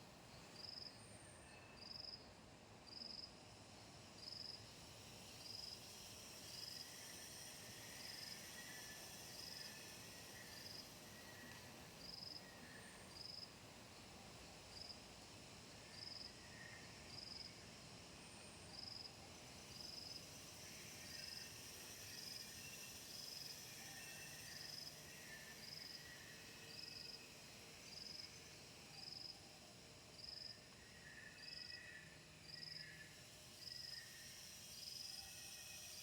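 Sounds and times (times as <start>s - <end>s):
cricket chirping: 0.1s - 36.0s
insects chirping: 0.1s - 36.0s.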